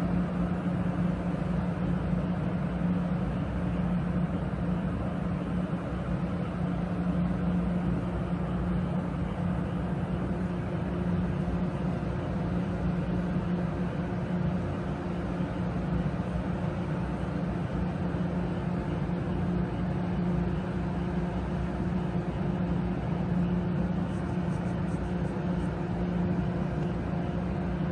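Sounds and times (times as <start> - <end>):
electric train humming: 0.0 - 27.9.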